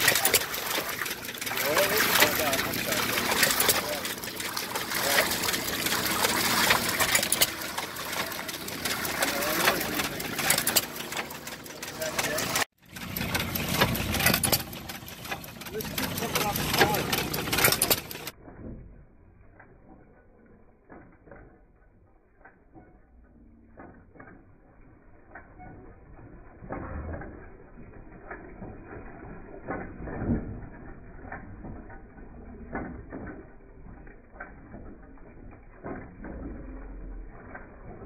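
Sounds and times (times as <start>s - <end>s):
stationary engine running slowly: 0.0s - 38.0s.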